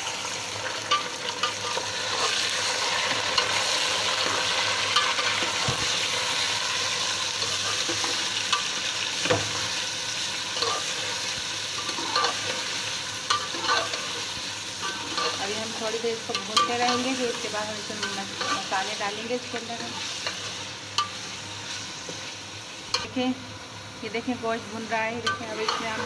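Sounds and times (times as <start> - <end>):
beef sizzling in oil: 0.0 - 26.0.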